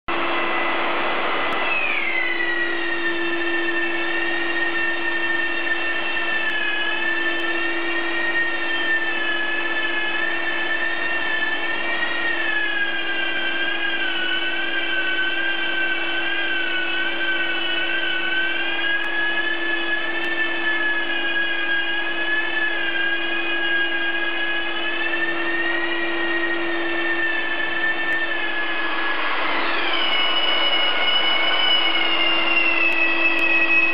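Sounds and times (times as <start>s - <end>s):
drywall sander whine: 0.1s - 33.9s
dust extractor hum: 0.1s - 33.9s.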